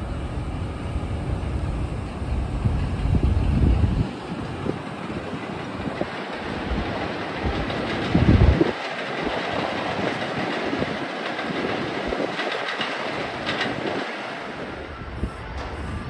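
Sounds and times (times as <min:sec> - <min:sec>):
subway train rail noise: 0:00.0 - 0:16.0.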